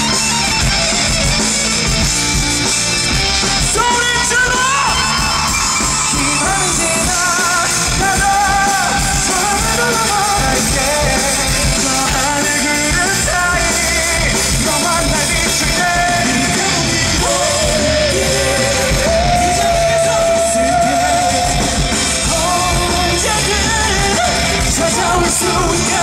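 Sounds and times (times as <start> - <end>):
drum kit: 0.0 - 26.0
electric guitars: 0.0 - 26.0
person singing with vibrato: 3.6 - 26.0.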